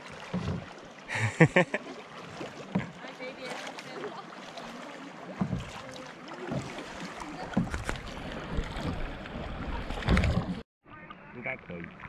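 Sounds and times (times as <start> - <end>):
paddles splashing water: 0.0 - 12.0.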